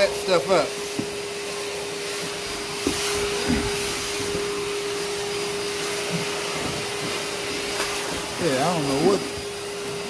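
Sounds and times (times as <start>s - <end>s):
shop vacuum whining: 0.0s - 10.0s.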